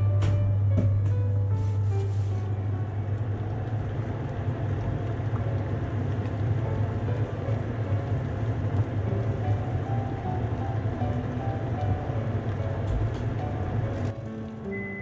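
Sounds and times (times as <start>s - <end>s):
low steady hum: 0.0s - 15.0s
water boiling in a pot: 1.3s - 15.0s.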